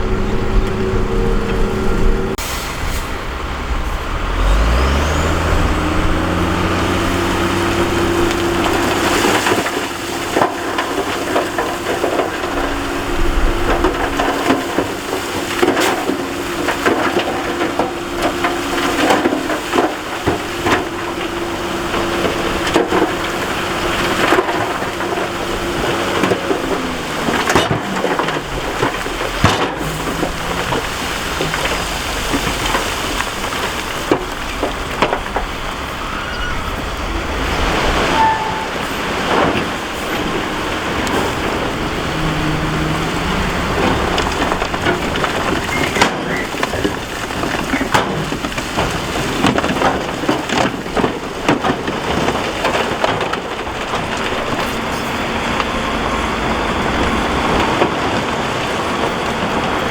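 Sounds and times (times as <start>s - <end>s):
diesel machine engine revving: 0.0s - 59.9s
rock and gravel clattering: 3.6s - 59.9s.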